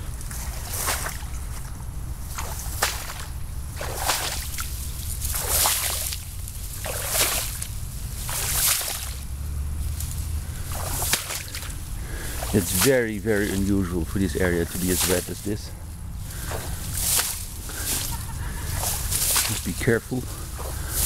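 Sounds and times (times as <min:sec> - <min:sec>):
footsteps swishing through grass: 0:00.0 - 0:21.0.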